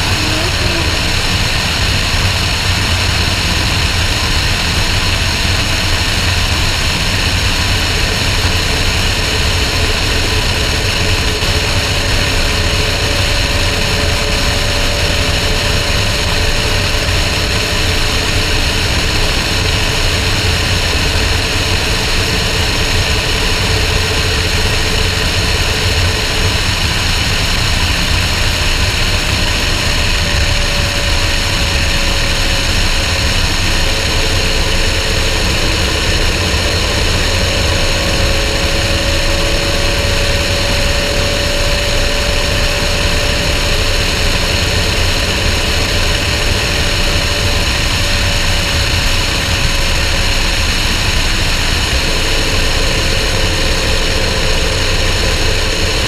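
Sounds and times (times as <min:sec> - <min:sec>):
car engine drone: 0:00.0 - 0:56.0
wind rush and road noise: 0:00.0 - 0:56.0.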